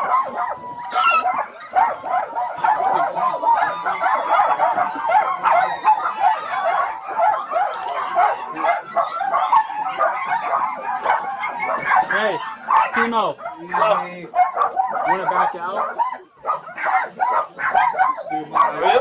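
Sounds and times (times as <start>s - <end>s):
small dogs barking and yipping: 0.0s - 19.0s.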